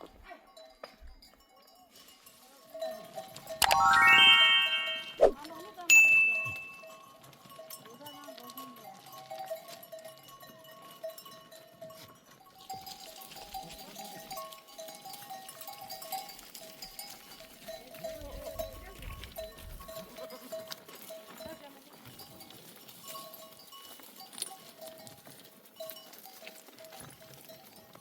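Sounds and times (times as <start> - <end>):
sheep bells ringing: 0.2 - 28.0.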